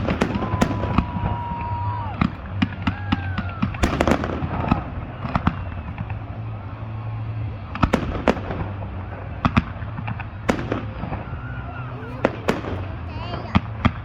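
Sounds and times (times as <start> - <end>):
fireworks bangs and pops: 0.0 - 14.0
fireworks cracks: 0.0 - 14.0.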